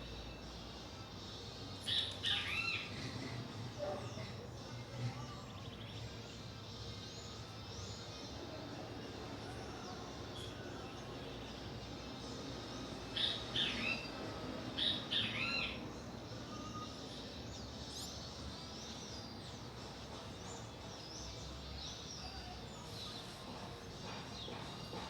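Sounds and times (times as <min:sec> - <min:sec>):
birds chirping: 0:00.0 - 0:25.0
outdoor background noise: 0:00.0 - 0:25.0.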